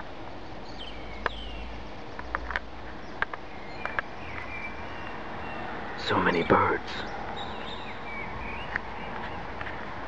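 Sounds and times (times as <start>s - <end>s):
birds whistling: 0.4s - 9.6s.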